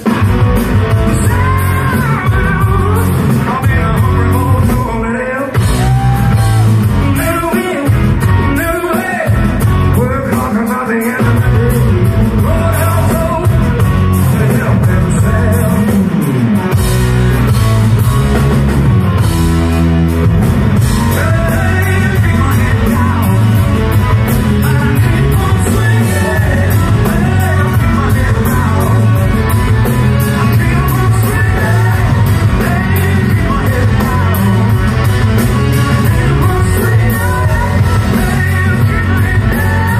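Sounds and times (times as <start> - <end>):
drums: 0.0 - 39.9
electric guitars: 0.0 - 39.9
man singing: 0.6 - 16.3, 20.9 - 39.9.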